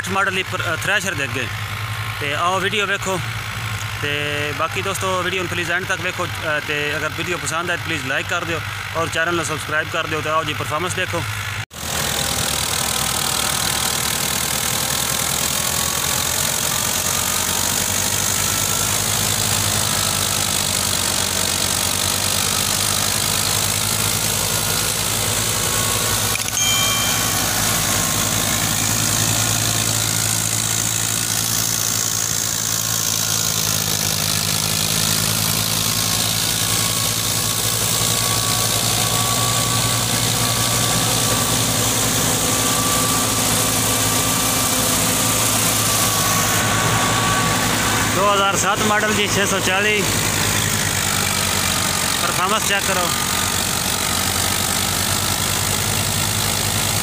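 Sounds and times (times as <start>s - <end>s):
thresher machine noise: 0.0s - 57.0s
tractor diesel engine running: 0.0s - 57.0s.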